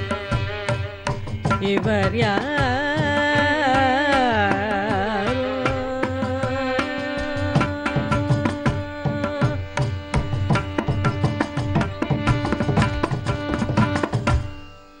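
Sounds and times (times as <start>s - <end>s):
hand drum strokes: 0.0s - 14.6s.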